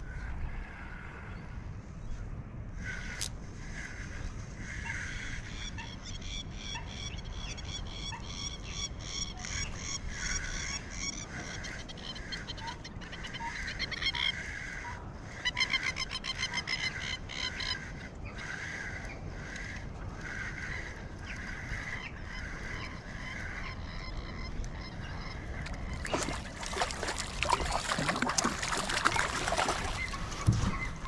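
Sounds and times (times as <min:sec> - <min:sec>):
birds calling: 0:02.8 - 0:31.0.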